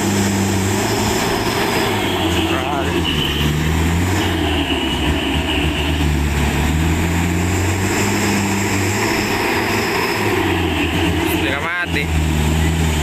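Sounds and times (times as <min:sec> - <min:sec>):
rumbling road noise: 0:00.0 - 0:13.0
truck engine running: 0:00.0 - 0:13.0.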